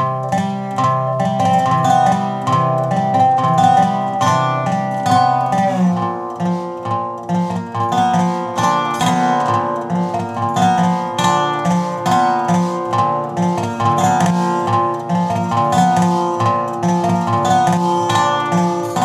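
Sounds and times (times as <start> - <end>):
fingerpicked resonator guitar: 0.0 - 19.0.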